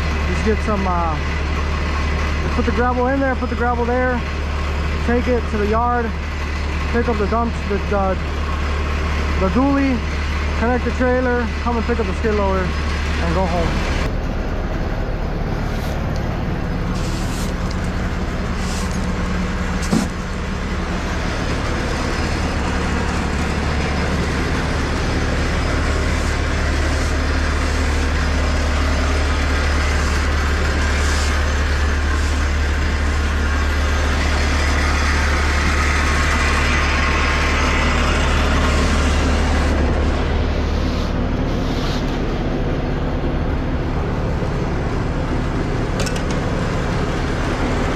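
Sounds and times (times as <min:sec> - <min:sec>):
vehicle engine droning: 0:00.0 - 0:47.9.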